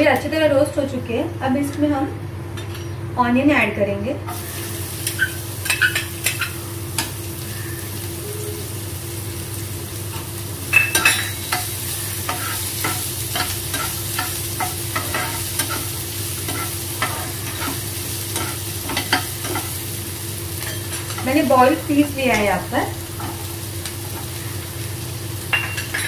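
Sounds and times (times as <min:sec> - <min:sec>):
onions sizzling in oil: 0:04.3 - 0:26.0.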